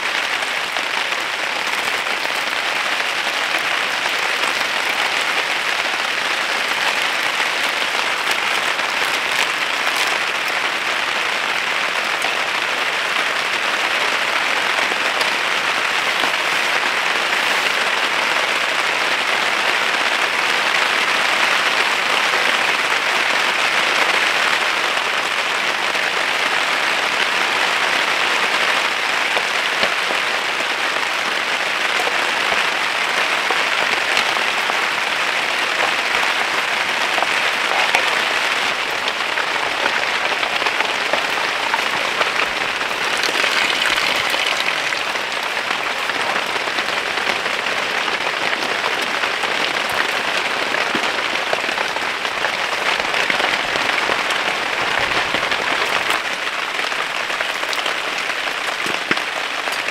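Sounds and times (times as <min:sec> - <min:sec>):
rain on tent fabric: 0:00.0 - 0:59.9.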